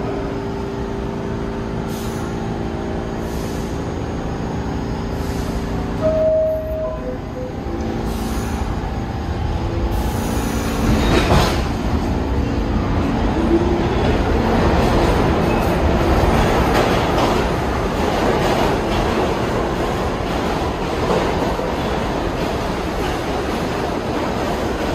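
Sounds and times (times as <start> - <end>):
subway train wheels rumbling: 0.0 - 24.9.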